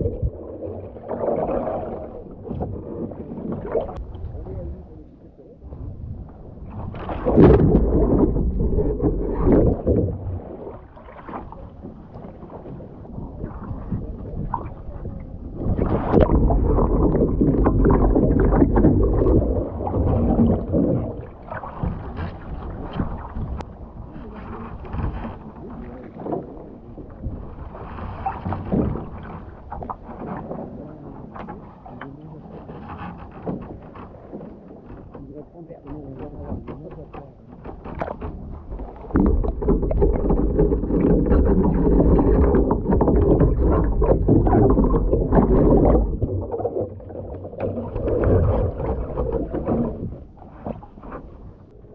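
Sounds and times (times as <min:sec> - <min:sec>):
water sloshing and lapping: 0:00.0 - 0:51.9
water splashing against kayak: 0:00.0 - 0:51.9.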